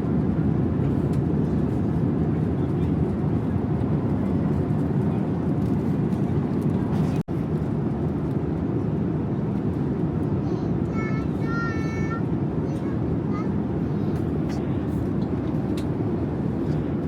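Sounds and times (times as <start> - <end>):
aircraft cabin engine rush: 0.0 - 17.0.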